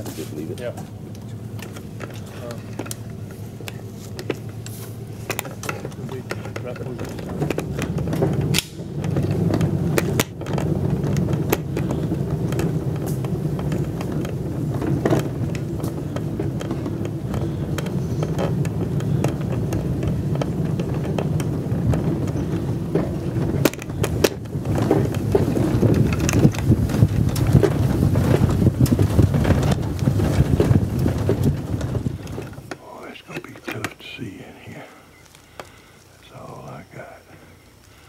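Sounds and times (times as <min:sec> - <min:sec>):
rattles and knocks: 0:00.0 - 0:34.3
truck engine and tyre rumble: 0:00.0 - 0:38.0.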